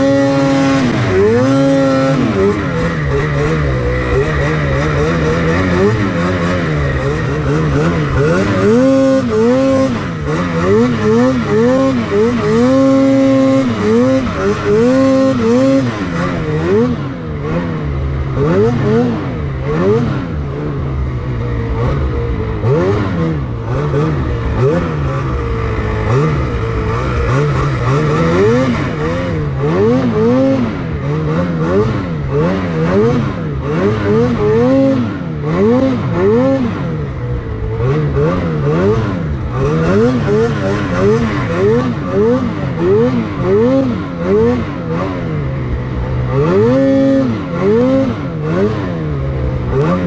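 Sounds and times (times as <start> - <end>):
snowmobile engine revving: 0.0 - 50.0.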